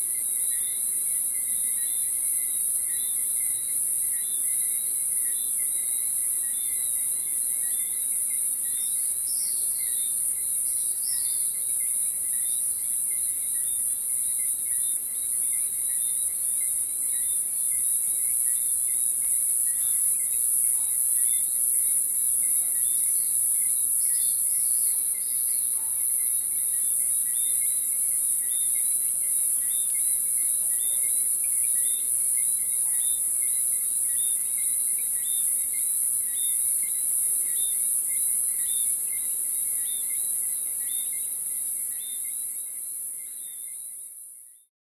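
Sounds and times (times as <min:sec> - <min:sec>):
insects droning: 0:00.0 - 0:44.4
insect chirps: 0:00.0 - 0:44.7.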